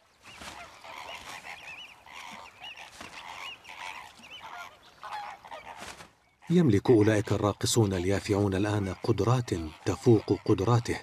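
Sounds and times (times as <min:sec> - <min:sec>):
flamingos honking: 0:00.4 - 0:05.8, 0:06.4 - 0:11.0.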